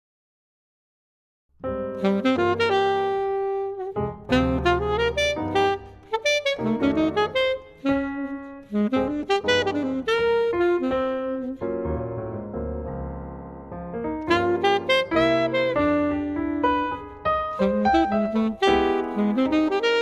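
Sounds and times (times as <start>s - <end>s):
alto saxophone jazz melody: 1.6s - 12.9s, 14.0s - 20.0s
piano chords: 1.6s - 20.0s.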